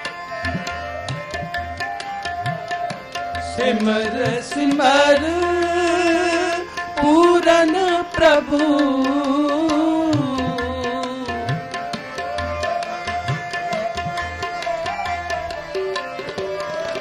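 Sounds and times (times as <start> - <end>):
harmonium melody: 0.0 - 17.0
tabla rhythm: 0.0 - 17.0.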